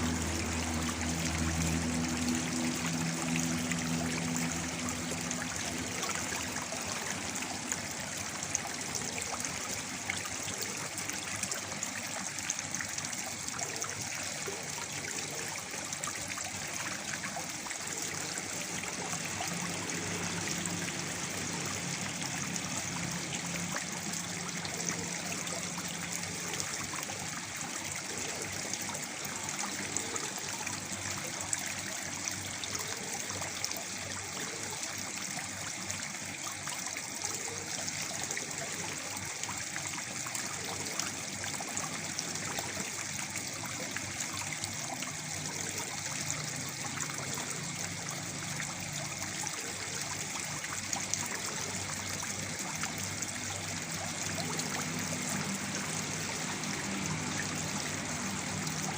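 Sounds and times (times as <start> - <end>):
small water splashes: 0.0 - 58.9.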